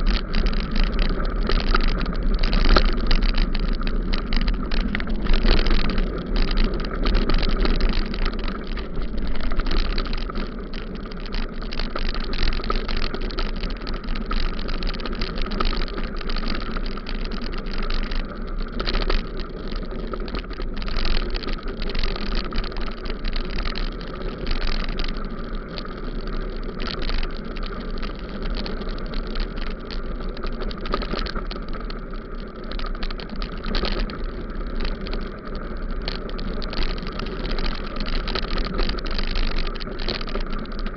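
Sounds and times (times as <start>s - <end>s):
bicycle tyres on gravel: 0.0s - 40.9s.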